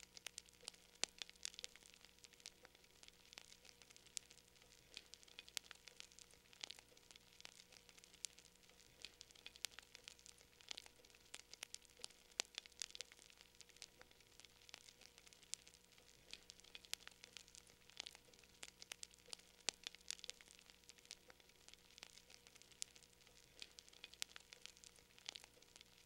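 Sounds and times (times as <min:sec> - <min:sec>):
faint hiss: 0:00.0 - 0:26.0
wood fire crackling: 0:00.0 - 0:26.0.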